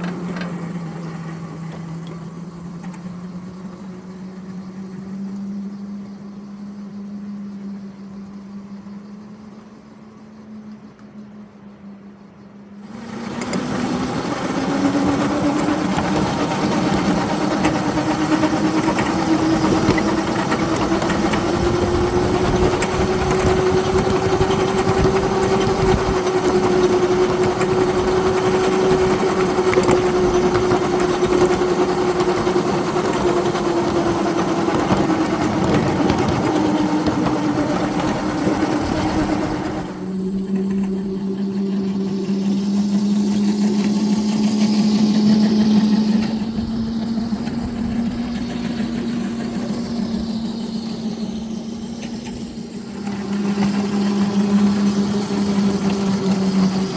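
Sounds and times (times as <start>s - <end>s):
continuous rattle: 0.0s - 56.9s
locomotive motor drone: 0.0s - 56.9s.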